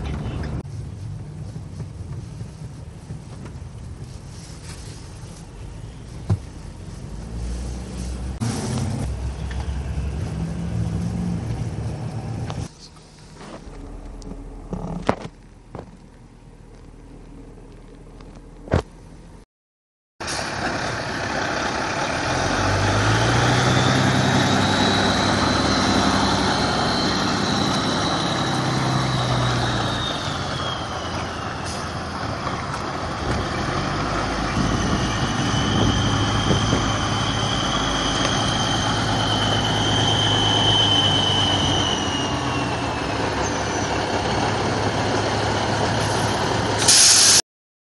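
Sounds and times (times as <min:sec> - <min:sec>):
tow truck diesel engine: 0:00.0 - 0:19.4, 0:20.2 - 0:47.4.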